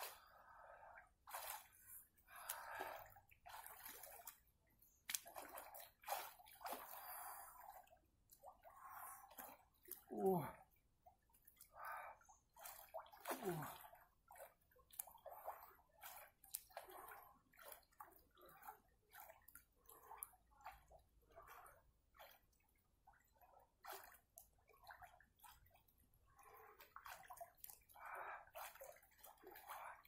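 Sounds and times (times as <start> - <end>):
water splashing in a pool: 0.0 - 30.0.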